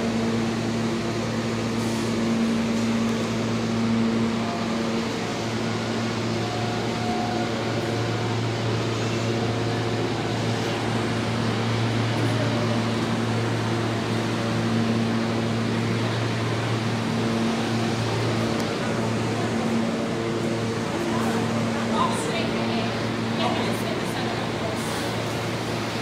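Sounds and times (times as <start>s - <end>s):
train air-conditioning hum: 0.0s - 26.0s.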